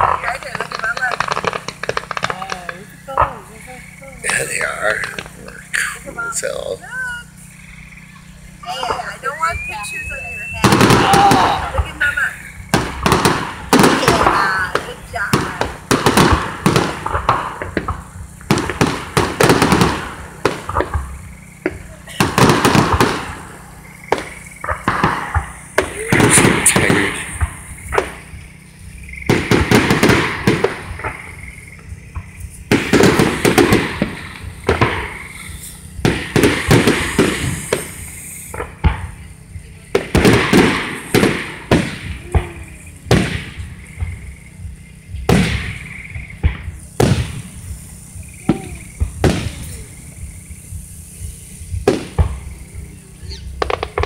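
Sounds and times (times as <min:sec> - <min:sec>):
firework shells bursting: 0:00.0 - 0:06.7, 0:07.3 - 0:54.0
firework crackling: 0:00.0 - 0:54.0.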